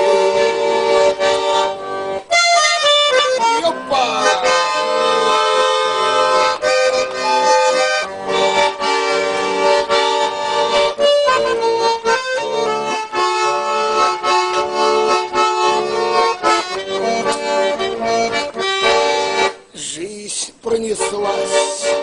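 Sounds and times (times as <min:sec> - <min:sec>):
button accordion melody: 0:00.0 - 0:22.0.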